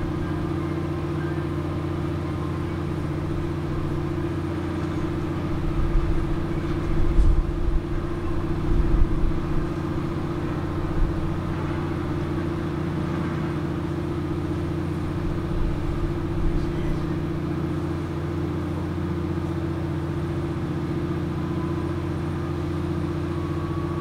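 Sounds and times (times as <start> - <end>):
engine idling: 0.0 - 24.0
uneven low rumbles: 0.0 - 24.0.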